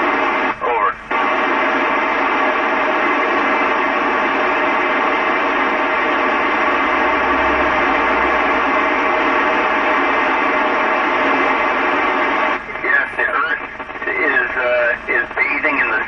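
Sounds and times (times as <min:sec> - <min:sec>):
radio static: 0:00.0 - 0:16.0.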